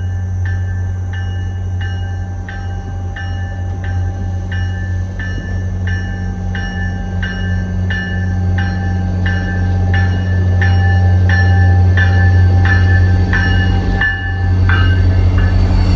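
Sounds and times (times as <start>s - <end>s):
grade-crossing bell ringing: 0.0s - 15.9s
low drone of train: 0.0s - 15.9s.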